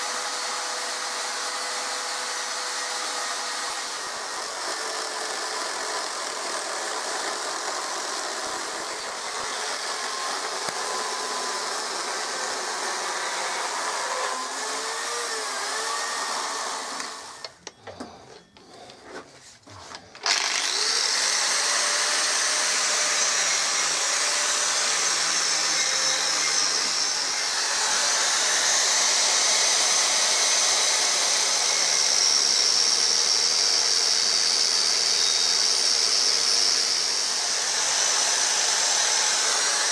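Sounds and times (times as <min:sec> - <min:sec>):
chainsaw cutting wood: 0:00.0 - 0:17.6, 0:20.2 - 0:39.9
angle grinder whining: 0:00.0 - 0:39.9.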